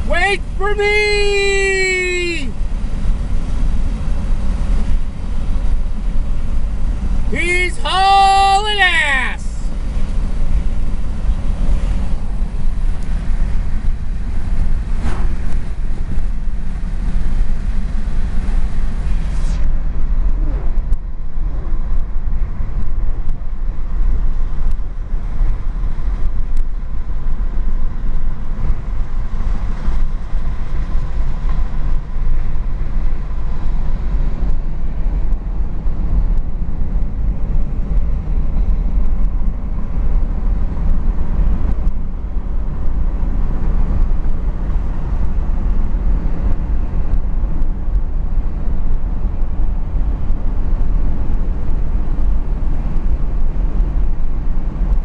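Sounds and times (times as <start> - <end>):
road and wind noise inside car: 0.0 - 55.0.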